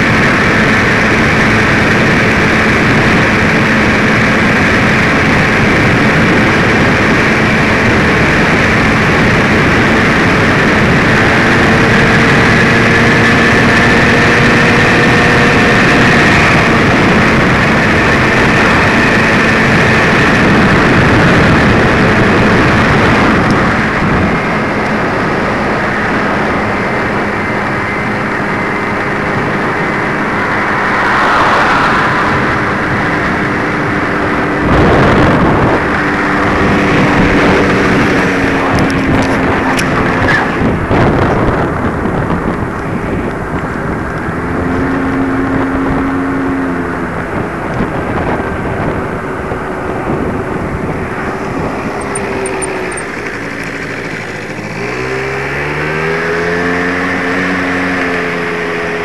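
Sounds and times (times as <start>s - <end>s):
vehicle engine running: 0.0s - 59.0s
wind and road rush: 0.0s - 59.0s.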